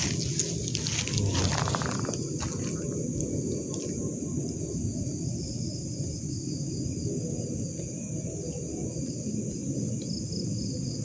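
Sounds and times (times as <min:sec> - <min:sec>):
low rumbling noise: 0:00.0 - 0:09.5
crickets chirring: 0:00.0 - 0:11.0.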